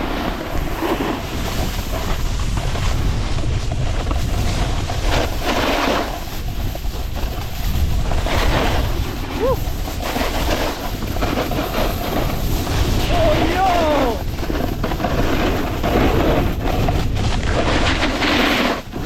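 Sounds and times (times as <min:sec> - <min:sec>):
snowboard edge scraping snow: 0:00.0 - 0:19.0
wind buffeting microphone: 0:00.0 - 0:19.0.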